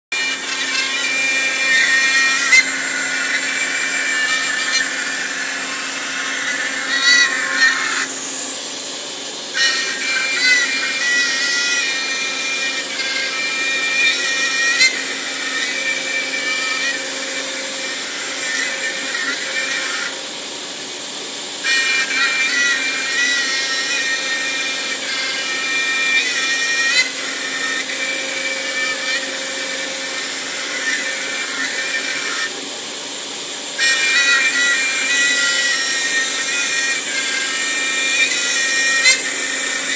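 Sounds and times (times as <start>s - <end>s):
router bit cutting wood: 0.1s - 39.9s.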